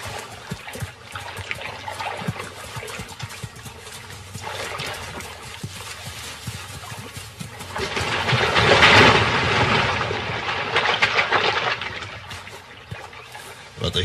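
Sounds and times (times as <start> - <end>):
water splashing and churning: 0.0 - 13.8.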